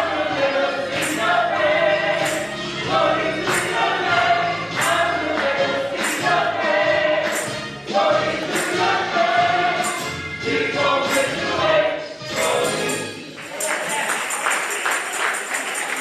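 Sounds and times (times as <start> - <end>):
gospel choir singing: 0.0 - 14.2.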